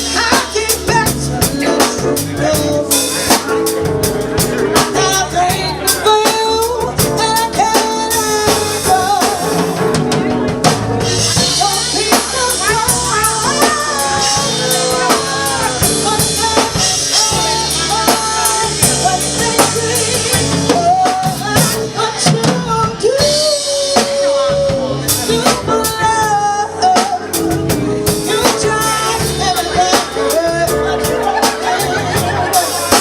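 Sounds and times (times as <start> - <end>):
drum rimshots: 0.0 - 33.0
live band playing soul ballad: 0.0 - 33.0
person singing: 0.0 - 33.0.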